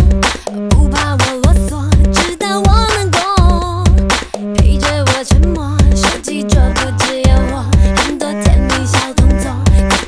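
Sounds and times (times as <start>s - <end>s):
music with heavy beat: 0.0s - 10.0s.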